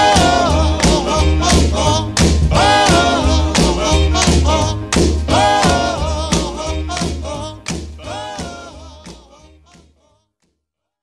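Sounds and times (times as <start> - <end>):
song with sung melody and bass: 0.0 - 10.1.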